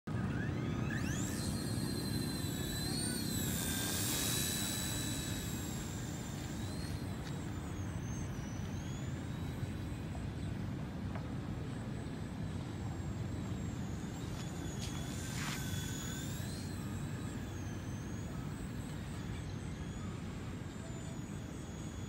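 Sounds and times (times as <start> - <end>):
toy helicopter rotor whine: 0.1 - 22.0.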